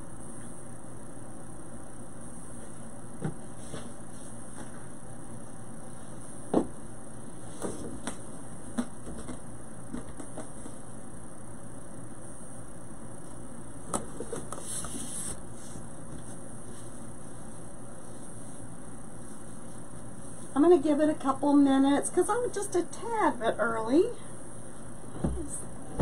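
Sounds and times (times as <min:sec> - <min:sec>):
room hum: 0:00.0 - 0:26.0.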